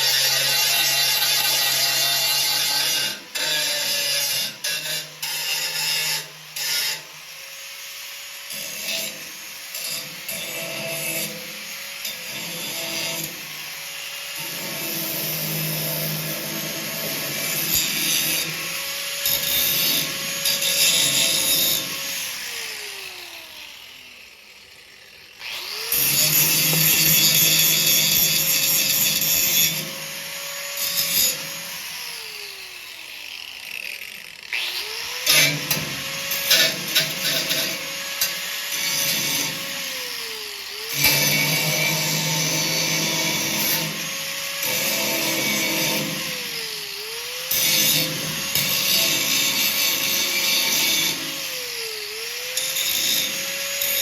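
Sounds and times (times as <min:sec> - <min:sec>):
electric grinder on metal: 0:00.0 - 0:54.0.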